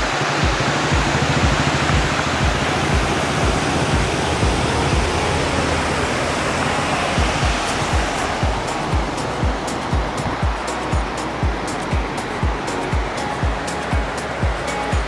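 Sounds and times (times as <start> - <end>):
music with low beat: 0.0 - 15.0
river rapids rushing: 0.0 - 15.0.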